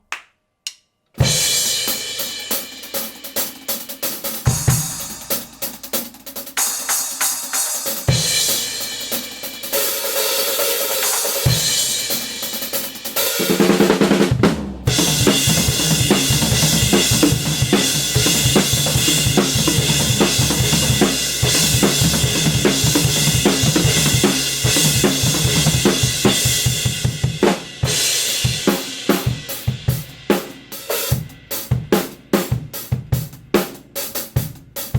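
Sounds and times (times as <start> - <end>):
drum kit groove: 1.2 - 34.9.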